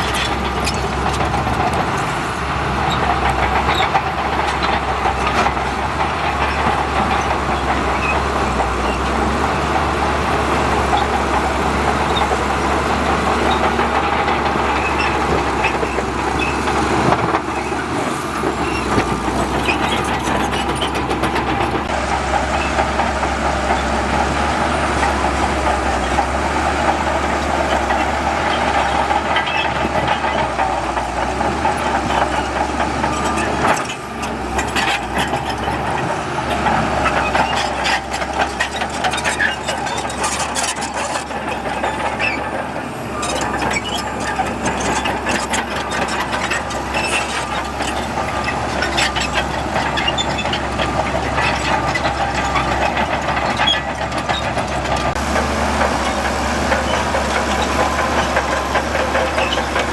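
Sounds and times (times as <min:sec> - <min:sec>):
diesel engine running: 0:00.0 - 0:59.9
metal clanks and rattles: 0:10.8 - 0:59.9.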